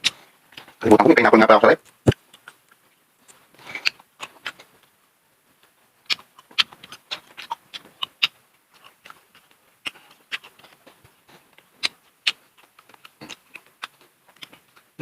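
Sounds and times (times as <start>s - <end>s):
food crunching: 1.8s - 4.9s, 5.6s - 15.0s.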